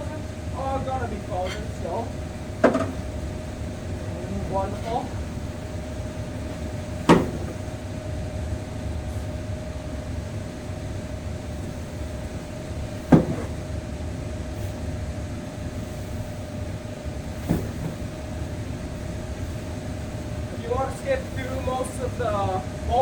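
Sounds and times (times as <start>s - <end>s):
heater fan humming: 0.0s - 23.0s.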